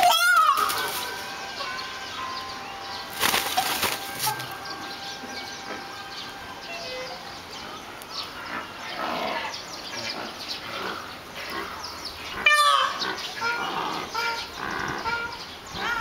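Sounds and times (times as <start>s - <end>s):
peafowl calling: 0.0s - 8.8s, 10.2s - 16.0s.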